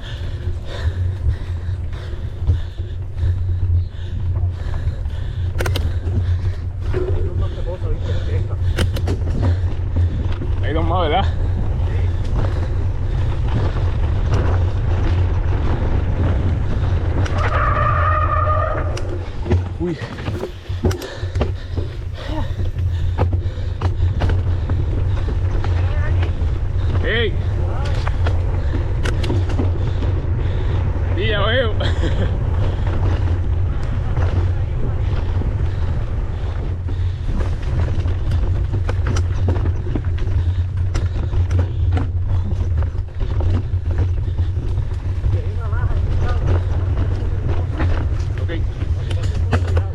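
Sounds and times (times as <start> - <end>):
mountain bike trail rumble and knocks: 0.0 - 49.9
wind buffeting microphone: 0.0 - 49.9.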